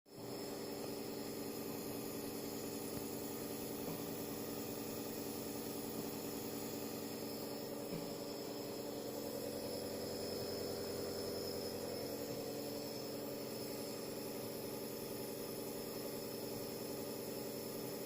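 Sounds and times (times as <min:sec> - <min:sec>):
nebulizer compressor humming: 0:00.1 - 0:18.0.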